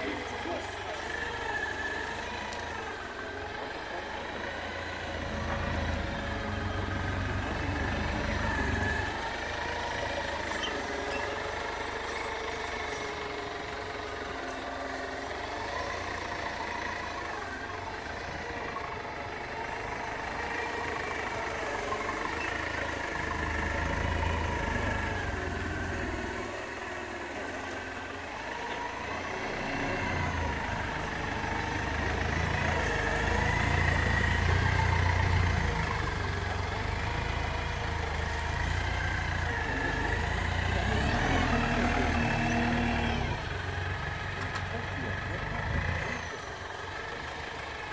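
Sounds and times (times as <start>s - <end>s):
forklift engine revving: 0.0s - 47.9s.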